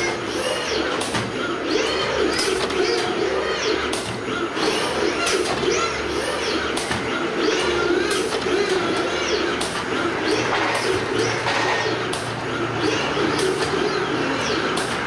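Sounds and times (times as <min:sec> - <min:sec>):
machine clacking: 0:00.0 - 0:15.0
pigeon cooing: 0:00.0 - 0:15.0
small birds chirping: 0:00.0 - 0:15.0
steady machine noise: 0:00.0 - 0:15.0.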